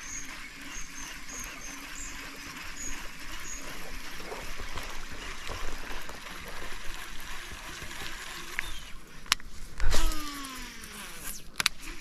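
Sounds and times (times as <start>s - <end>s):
reel spool whirring: 0.0s - 12.0s.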